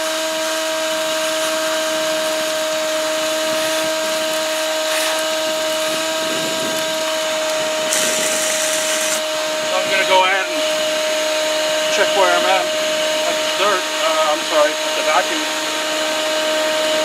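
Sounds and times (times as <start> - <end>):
shop vac whining: 0.0 - 17.0.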